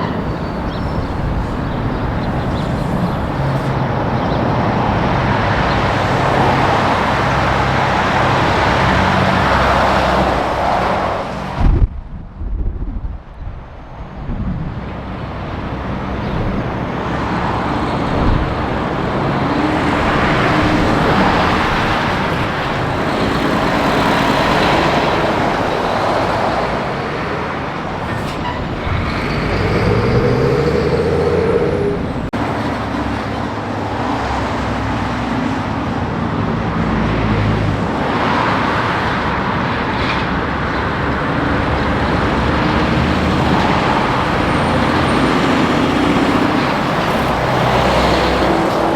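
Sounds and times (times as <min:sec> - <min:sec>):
heavy trucks passing: 0:00.0 - 0:11.8, 0:13.8 - 0:48.9.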